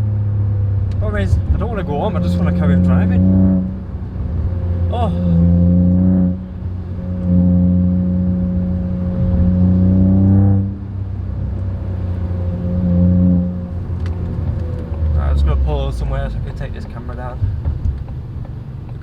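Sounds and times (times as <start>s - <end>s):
car engine exhaust drone: 0.0s - 19.0s.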